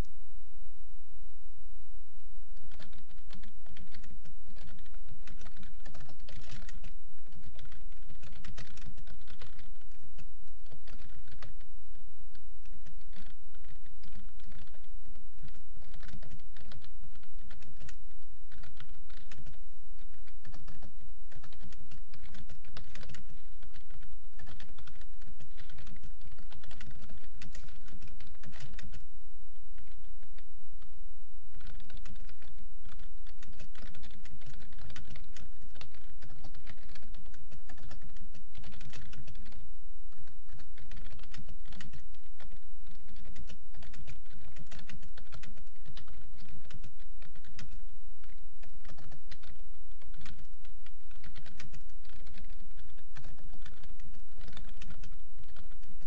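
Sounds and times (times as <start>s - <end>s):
steady low hum: 0.0s - 56.0s
fast typing on keyboard: 2.6s - 29.1s, 29.8s - 30.5s, 31.5s - 56.0s.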